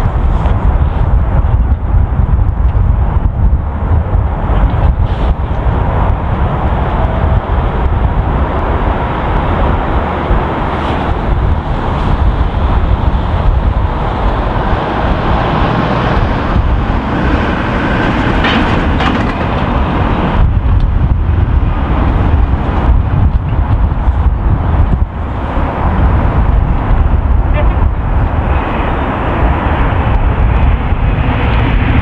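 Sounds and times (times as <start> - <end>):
train passing: 0.0 - 32.0.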